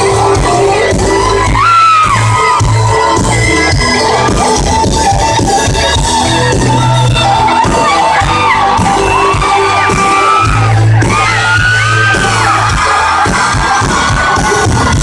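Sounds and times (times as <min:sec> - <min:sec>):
crowd whooping and yelling: 0:00.0 - 0:15.0
live country band playing: 0:00.0 - 0:15.0
person singing: 0:00.0 - 0:15.0.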